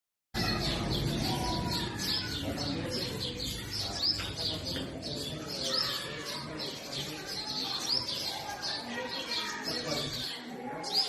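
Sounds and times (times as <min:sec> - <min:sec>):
birds chirping: 0:00.4 - 0:11.0.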